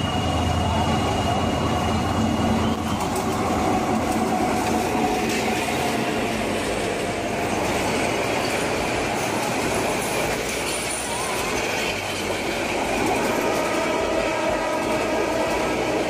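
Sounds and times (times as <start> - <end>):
diesel locomotive passing: 0.0 - 16.0
train wheels on rails: 0.0 - 16.0.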